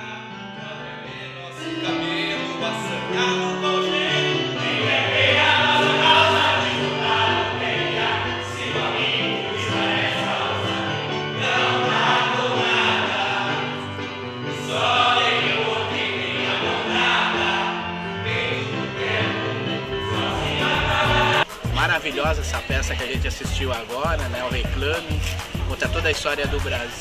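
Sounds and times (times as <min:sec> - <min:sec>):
group of voices singing in chorus: 0:00.0 - 0:22.7.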